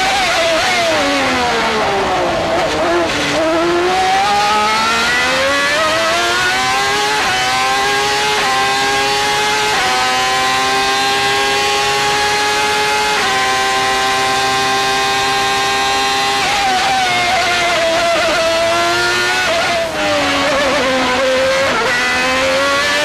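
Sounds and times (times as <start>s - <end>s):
racing car engine revving: 0.0s - 23.0s.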